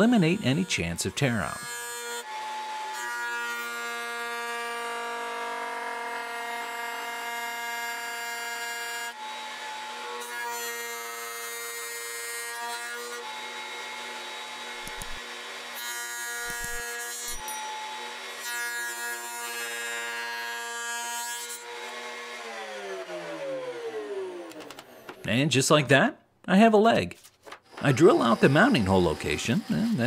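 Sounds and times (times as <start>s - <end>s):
router whining while cutting wood: 0.0s - 20.8s, 21.4s - 25.2s, 27.6s - 30.0s.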